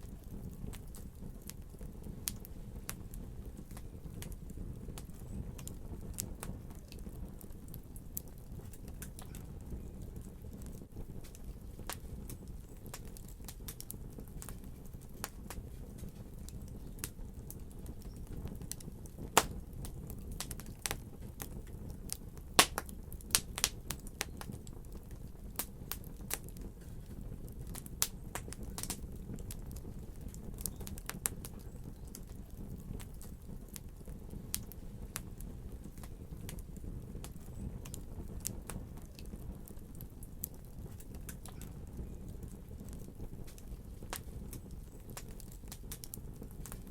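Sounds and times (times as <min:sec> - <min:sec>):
fire crackling and popping: 0:00.0 - 0:46.9
fire flames rumbling: 0:00.0 - 0:46.9.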